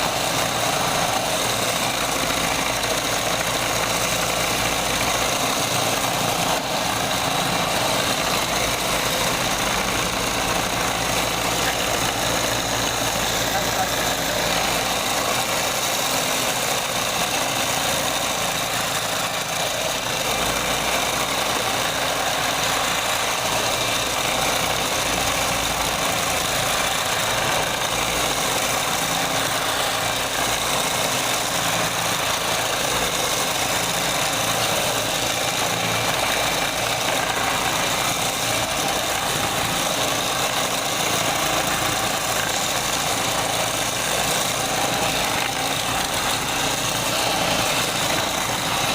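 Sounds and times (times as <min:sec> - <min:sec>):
power tool motor whine: 0:00.0 - 0:48.9.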